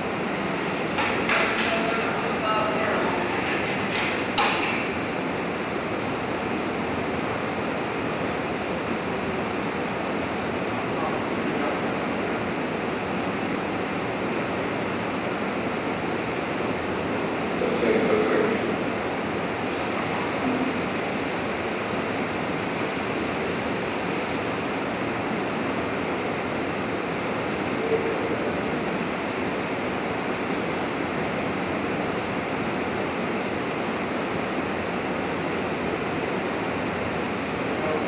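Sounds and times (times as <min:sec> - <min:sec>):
ventilation rushing noise: 0:00.0 - 0:38.0.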